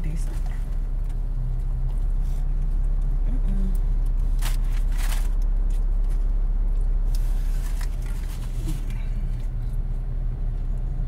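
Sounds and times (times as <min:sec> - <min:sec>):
car idling hum: 0:00.0 - 0:11.0.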